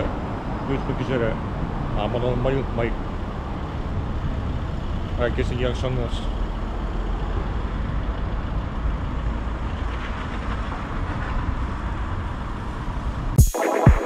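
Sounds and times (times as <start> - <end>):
city street traffic rumble: 0.0 - 13.4.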